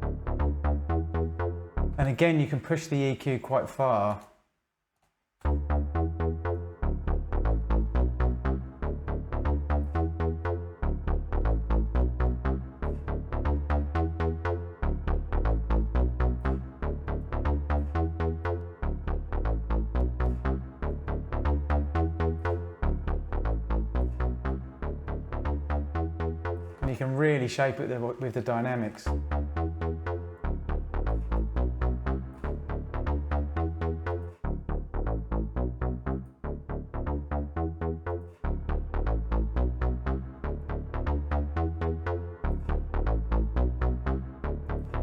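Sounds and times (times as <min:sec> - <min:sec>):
distorted synth bass riff: 0:00.0 - 0:02.1, 0:05.4 - 0:27.4, 0:29.1 - 0:45.0.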